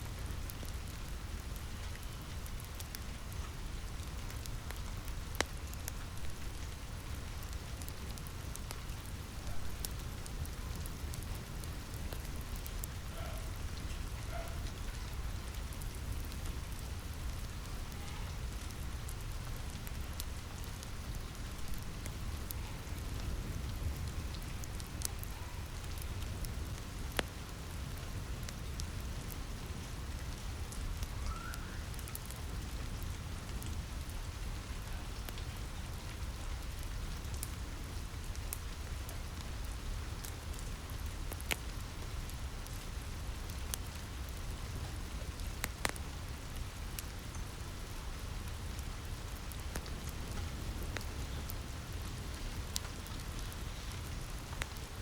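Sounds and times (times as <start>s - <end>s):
rain pattering on a roof: 0.0s - 55.0s
wood fire crackling: 0.0s - 55.0s.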